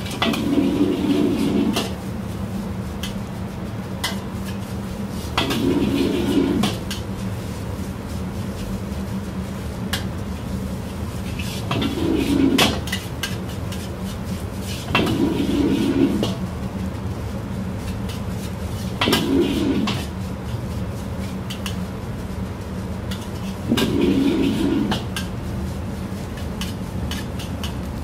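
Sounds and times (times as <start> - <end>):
spatula scraping a wok: 0.0 - 16.9, 17.6 - 27.9
stove low rumble: 0.0 - 28.0.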